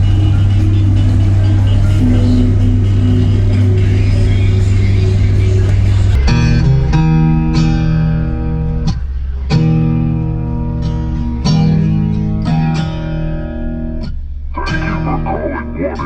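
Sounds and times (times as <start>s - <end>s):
music with guitar and heavy bass: 0.0s - 16.0s.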